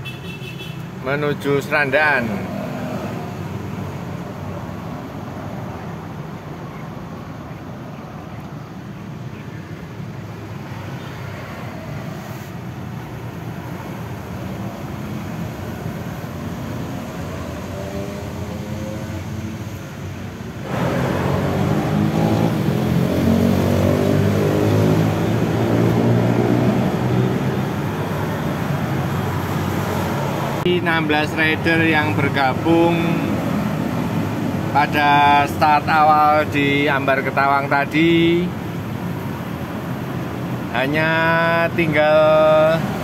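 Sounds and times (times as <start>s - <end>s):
road noise: 0.0s - 43.0s.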